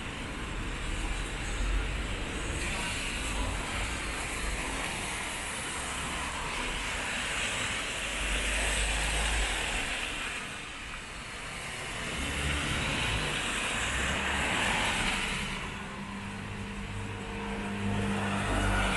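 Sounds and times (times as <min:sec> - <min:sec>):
low traffic rumble: 0:00.0 - 0:18.9
rain hissing on wet pavement: 0:00.1 - 0:17.0.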